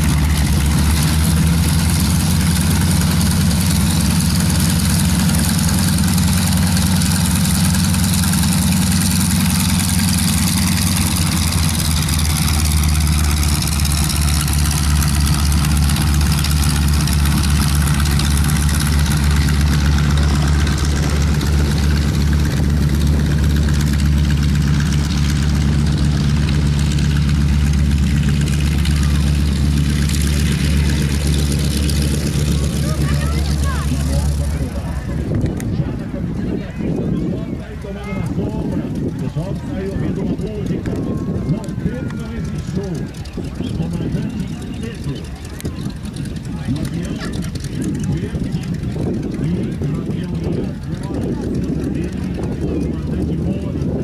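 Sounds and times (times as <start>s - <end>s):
radial aircraft engines idling: 0.0s - 54.0s.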